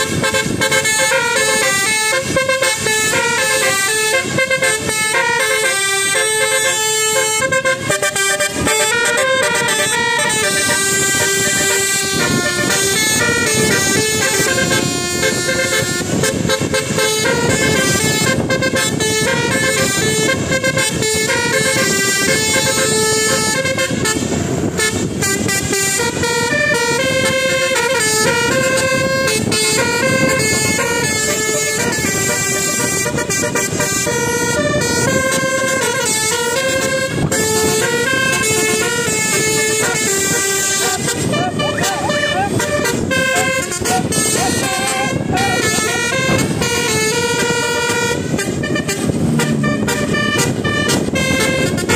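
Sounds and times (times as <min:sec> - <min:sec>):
multi-tone musical bus horn: 0:00.0 - 0:51.9
steady low rumble: 0:05.9 - 0:51.9.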